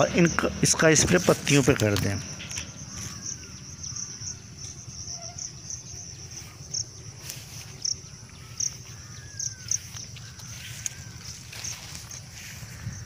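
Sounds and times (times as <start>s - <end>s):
insect chirps: 0.0s - 13.0s
insects droning: 0.0s - 13.0s
faint bird calls: 2.2s - 13.0s.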